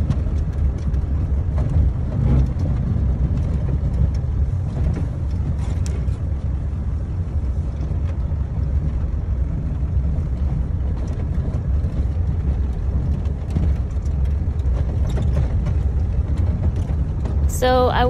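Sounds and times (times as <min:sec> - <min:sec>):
diesel engine rumble in cab: 0:00.0 - 0:18.0.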